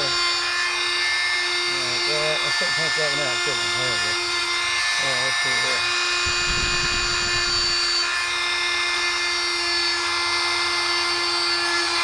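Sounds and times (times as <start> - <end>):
multi-tool whining: 0.0 - 12.0.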